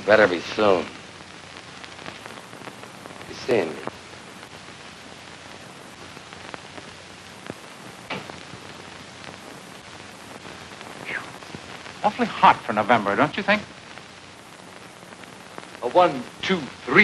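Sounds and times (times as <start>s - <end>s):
faint clicks and crackles: 0.0s - 17.0s
film soundtrack hiss: 0.0s - 17.0s.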